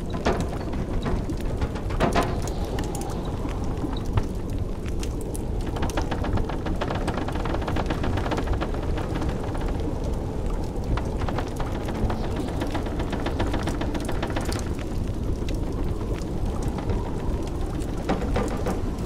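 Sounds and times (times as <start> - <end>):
low rumble of blizzard wind: 0.0 - 19.0
wood fire crackling and popping: 0.0 - 19.0.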